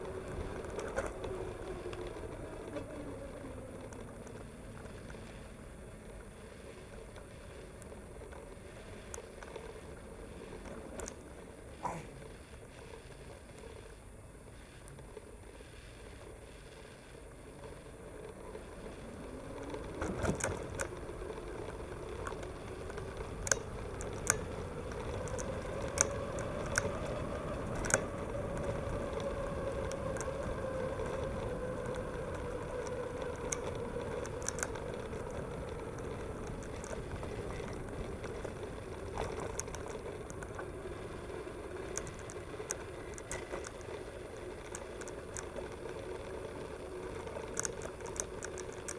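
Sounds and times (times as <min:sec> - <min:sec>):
bike clicks and rattles: 0:00.0 - 0:14.0, 0:14.7 - 0:48.9
bike tyre hum: 0:00.0 - 0:48.9.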